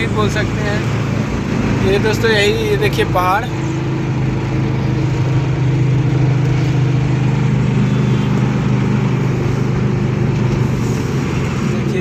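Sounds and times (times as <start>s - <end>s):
road noise inside vehicle cab: 0.0s - 12.0s
vehicle engine drone: 0.0s - 12.0s.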